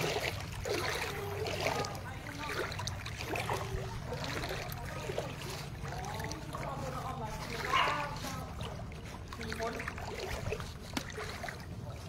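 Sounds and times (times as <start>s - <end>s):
faint distant voices: 0.0s - 12.0s
people wading through water: 0.0s - 12.0s.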